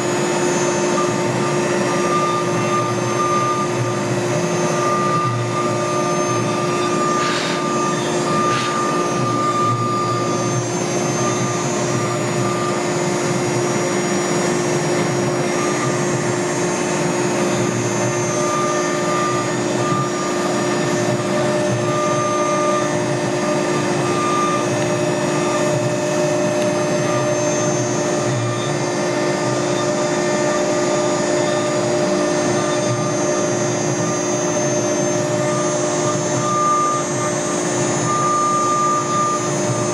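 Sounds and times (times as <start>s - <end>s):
cnc router carving wood: 0.0s - 39.9s.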